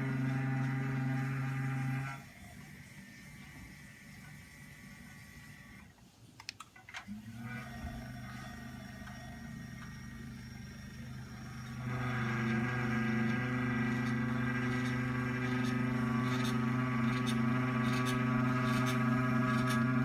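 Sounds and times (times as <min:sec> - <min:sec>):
desk lift motor humming: 0:00.0 - 0:05.9, 0:07.1 - 0:20.0.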